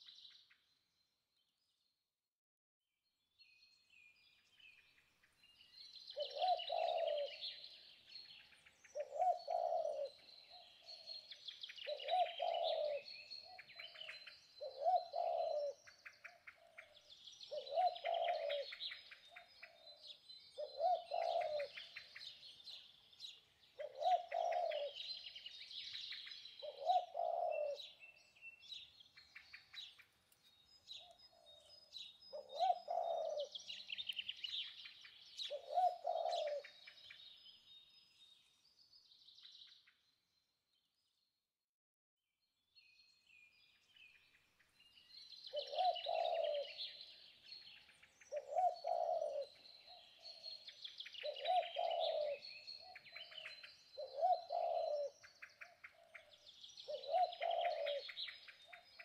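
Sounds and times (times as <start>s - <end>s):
birds chirping and twittering: 3.4s - 41.3s, 42.4s - 59.0s.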